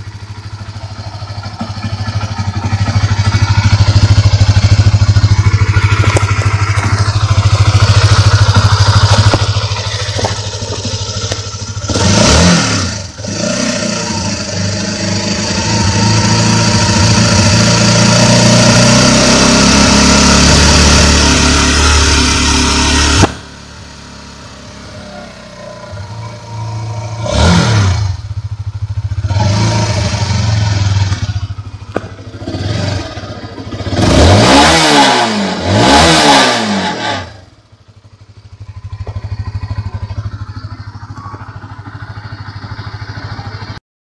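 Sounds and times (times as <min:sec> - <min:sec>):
motorcycle engine idling and revving: 0:00.0 - 0:43.8.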